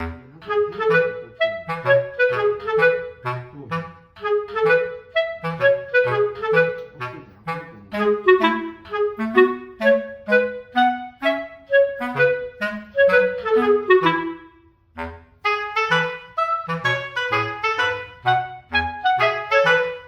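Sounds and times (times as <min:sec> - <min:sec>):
bass line: 0:00.0 - 0:20.0
bouncy woodwind-like melody: 0:00.0 - 0:20.0.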